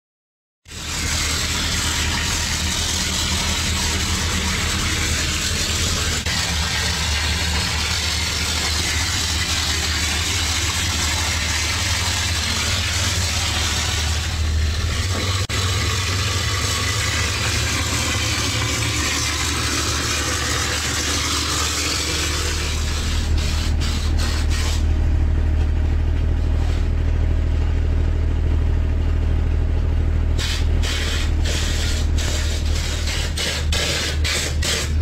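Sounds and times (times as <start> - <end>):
spray gun hissing: 0.7 - 24.9, 30.4 - 35.0
air compressor engine running: 0.7 - 35.0.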